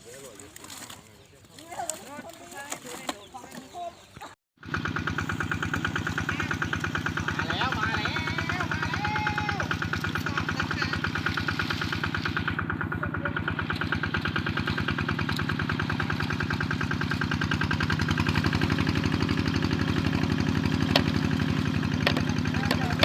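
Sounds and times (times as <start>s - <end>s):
small engine running: 4.6s - 23.0s.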